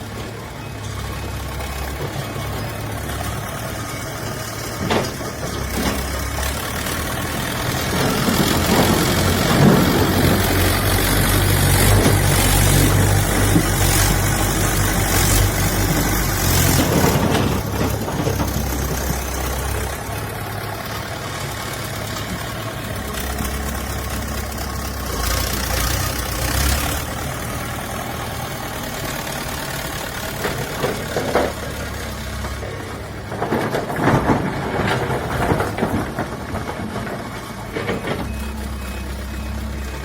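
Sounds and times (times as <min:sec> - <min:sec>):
diesel engine running at low revs: 0:00.0 - 0:40.0.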